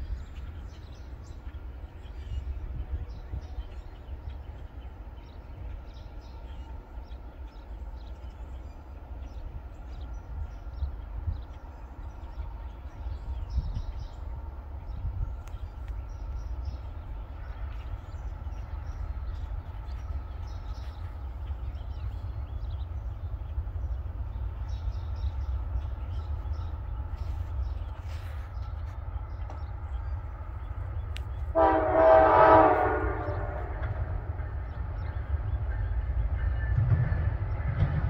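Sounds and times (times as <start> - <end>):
wind rumbling on microphone: 0.0 - 31.7
birds chirping: 0.0 - 38.0
distant freight train: 0.0 - 38.0.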